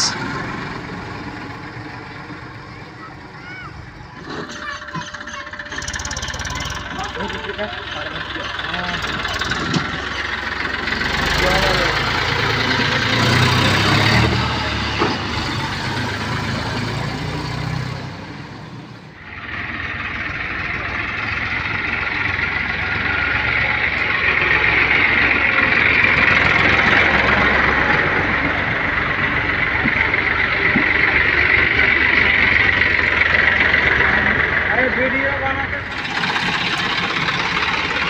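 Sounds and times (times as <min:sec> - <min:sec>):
tractor diesel engine running hard: 0:00.0 - 0:38.0.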